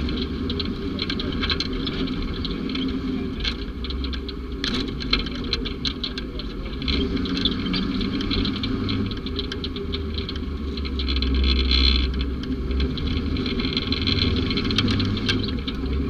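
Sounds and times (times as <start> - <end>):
clicking and rattling: 0.0 - 16.0
vehicle engine running: 0.0 - 16.0.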